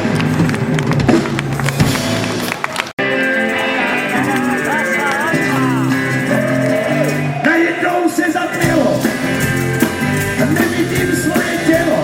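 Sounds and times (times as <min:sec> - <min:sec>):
rock and roll band playing live: 0:00.0 - 0:12.0.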